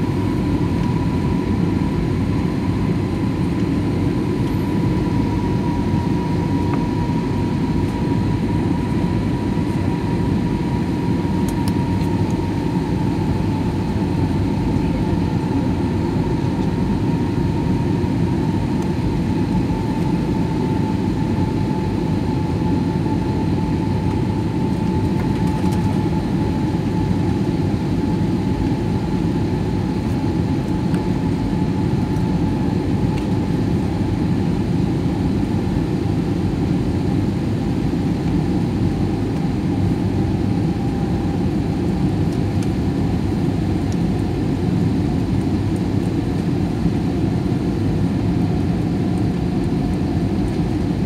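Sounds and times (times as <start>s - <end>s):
airliner cabin drone: 0.0s - 51.0s
faint high whine: 0.0s - 51.0s.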